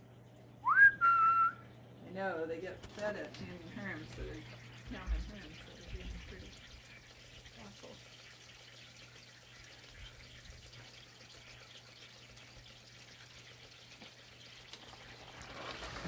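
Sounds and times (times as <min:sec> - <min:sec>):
low steady hum: 0:00.0 - 0:14.7
lawn sprinkler hissing: 0:03.0 - 0:16.0.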